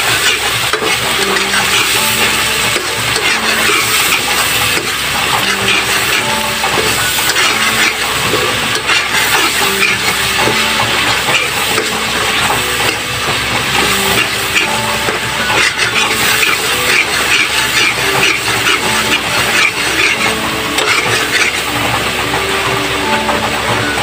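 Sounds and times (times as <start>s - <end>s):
ladle stirring sauce: 0.0s - 21.6s
soft melody of held notes: 0.2s - 24.0s.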